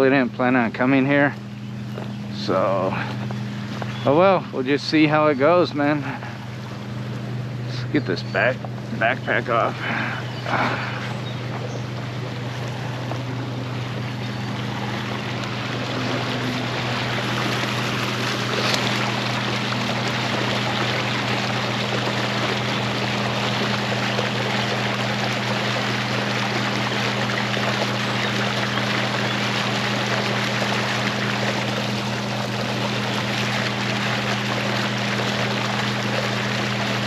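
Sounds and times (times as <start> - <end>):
steady low hum: 0.0 - 37.0
water gushing: 2.3 - 37.0.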